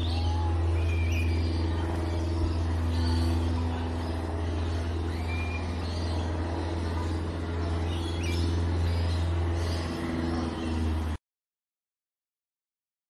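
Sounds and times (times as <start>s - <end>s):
birds chirping: 0.0s - 11.2s
steady low hum: 0.0s - 11.2s.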